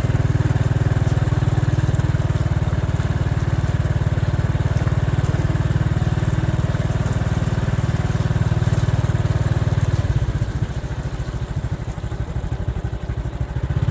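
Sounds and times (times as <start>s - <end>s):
small engine running: 0.0s - 13.9s.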